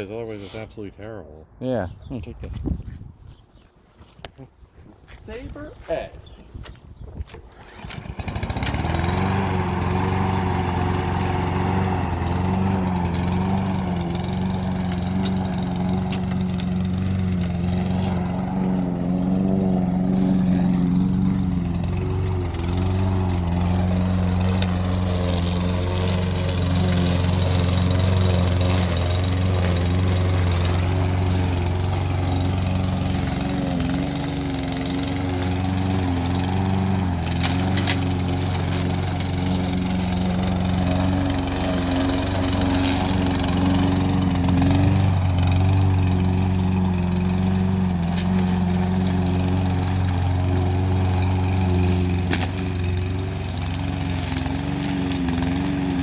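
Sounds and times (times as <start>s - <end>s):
lawnmower engine running: 7.3s - 56.0s.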